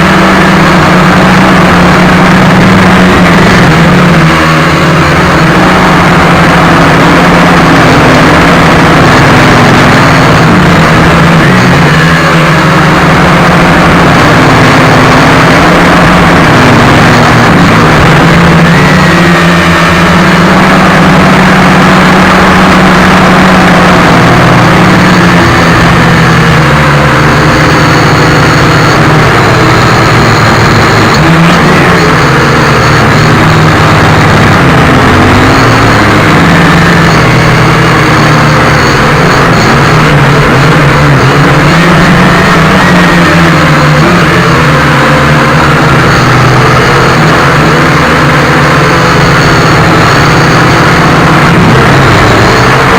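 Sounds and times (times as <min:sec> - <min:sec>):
drone propellers buzzing: 0:00.0 - 0:52.9.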